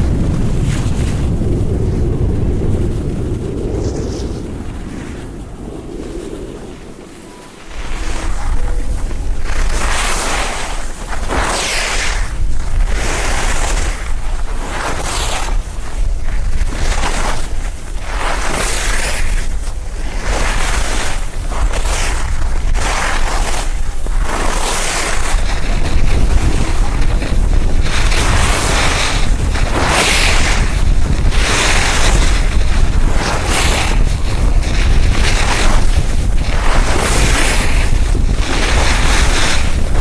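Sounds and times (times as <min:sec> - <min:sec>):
skis scraping on snow: 0:00.0 - 0:40.0
wind rumbling on microphone: 0:00.0 - 0:40.0.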